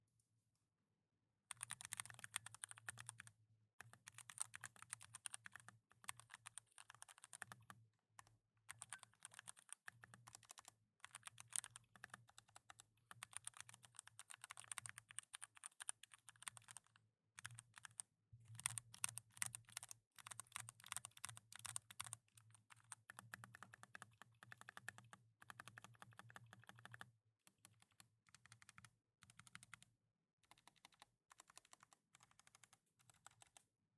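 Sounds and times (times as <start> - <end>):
typing on mechanical keyboard: 1.5 - 33.7.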